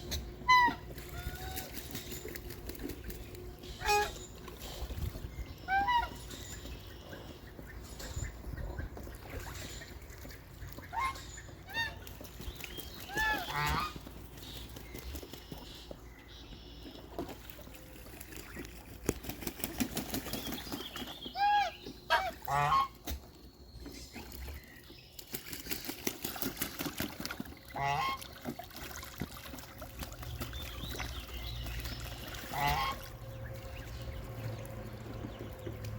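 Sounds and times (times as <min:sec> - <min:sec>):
birds calling: 0:00.0 - 0:28.6, 0:29.3 - 0:35.9.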